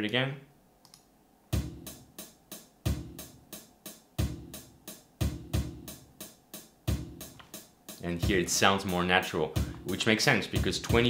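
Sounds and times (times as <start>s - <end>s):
drum machine loop: 1.5s - 11.0s.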